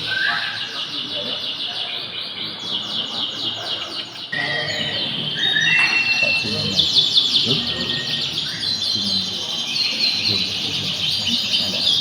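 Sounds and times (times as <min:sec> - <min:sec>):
canaries singing in chorus: 0:00.0 - 0:12.0.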